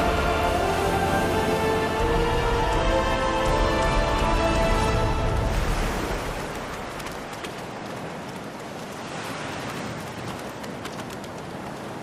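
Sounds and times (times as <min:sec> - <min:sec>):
surf washing over rocky shore: 0:00.0 - 0:12.0.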